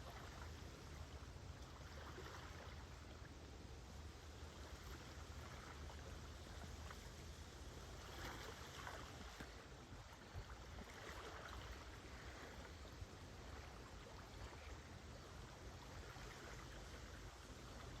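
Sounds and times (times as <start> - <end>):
small waves washing on shore: 0.0 - 18.0.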